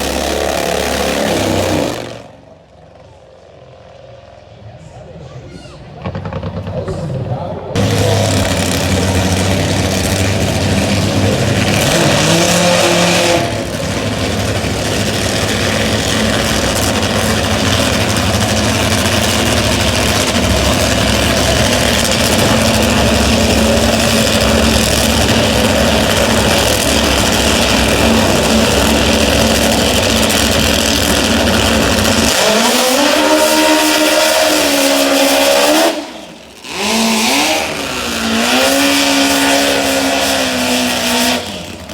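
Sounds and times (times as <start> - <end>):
drag motorcycle engines revving: 0.0 - 5.2, 5.8 - 41.9.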